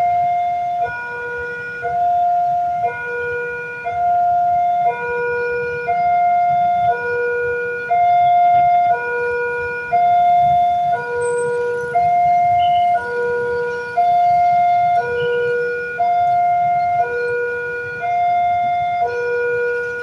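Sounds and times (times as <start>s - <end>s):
level-crossing alarm two-tone signal: 0.0s - 20.0s.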